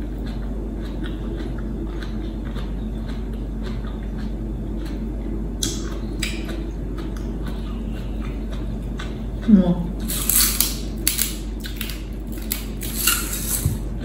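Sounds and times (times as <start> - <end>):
chewing crunchy vegetables: 0.0 - 14.0
washing machine drone: 0.0 - 14.0.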